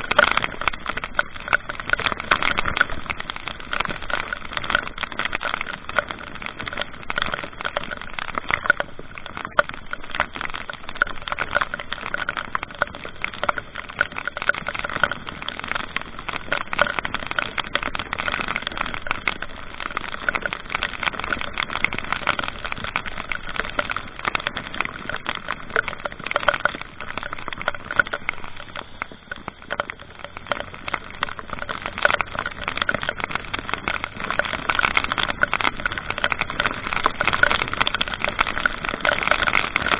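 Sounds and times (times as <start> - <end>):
small crackles: 0.0 - 39.9
vehicle rushing on road: 0.0 - 39.9.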